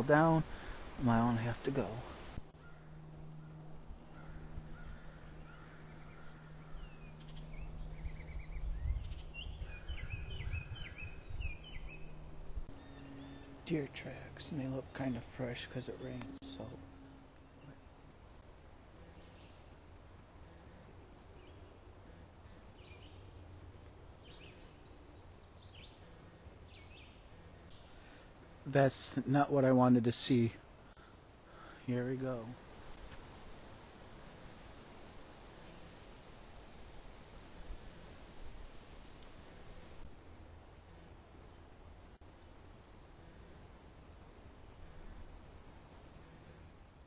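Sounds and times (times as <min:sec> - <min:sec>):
songbirds chirping: 0:00.0 - 0:47.0
steady low hum: 0:00.0 - 0:47.0.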